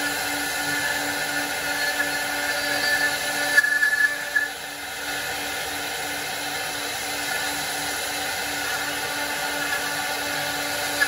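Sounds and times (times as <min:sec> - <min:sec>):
cutters carving wood: 0:00.0 - 0:05.8, 0:07.1 - 0:11.0
router spindles humming: 0:00.0 - 0:11.0.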